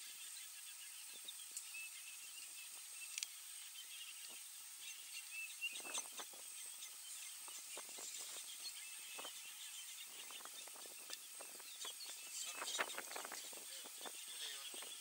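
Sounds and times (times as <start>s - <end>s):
faint bird chirps: 0.0s - 15.0s
steady high hiss: 0.0s - 15.0s.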